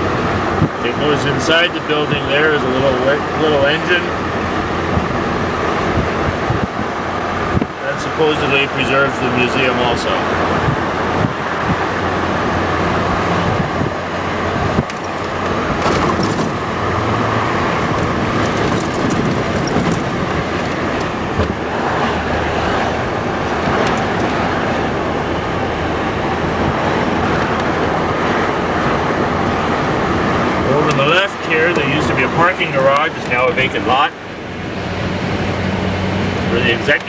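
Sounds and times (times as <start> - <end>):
train rumbling: 2.9 - 7.9, 10.0 - 37.0.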